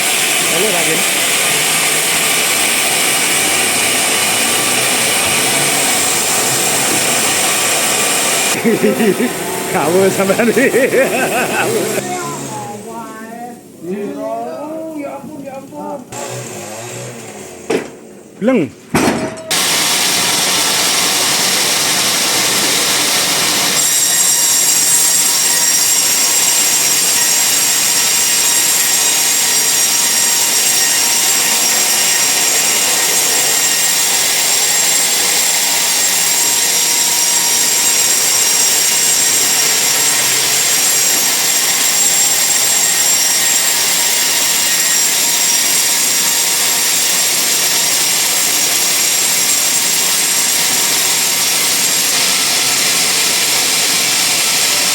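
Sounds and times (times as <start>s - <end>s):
band saw cutting log: 0.0s - 12.8s, 16.1s - 18.1s, 19.5s - 54.9s
high saw whine: 0.0s - 12.9s, 16.1s - 17.7s, 19.5s - 54.9s.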